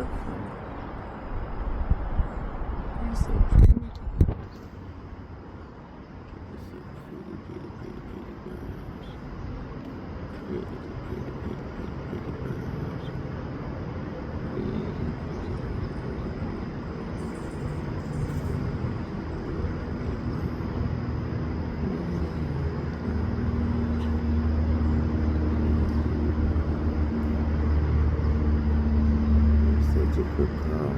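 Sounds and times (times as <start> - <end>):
low outdoor rumble: 0.0 - 30.9
low steady hum: 0.0 - 30.9.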